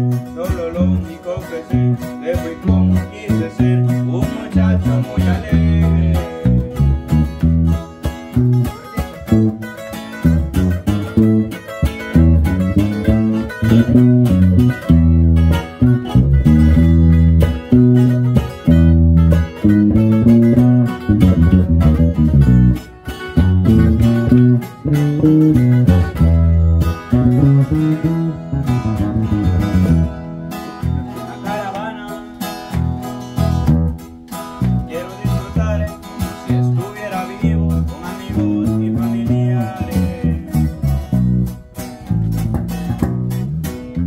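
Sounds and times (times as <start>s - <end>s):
bass line: 0.0s - 44.0s
plucked guitars: 0.0s - 44.0s.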